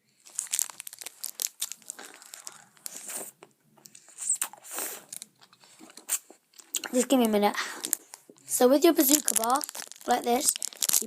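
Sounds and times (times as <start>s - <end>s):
wrapper crinkling and tearing: 0.1s - 3.3s, 5.0s - 11.0s
wrapper rustle: 0.2s - 3.4s, 5.0s - 11.0s.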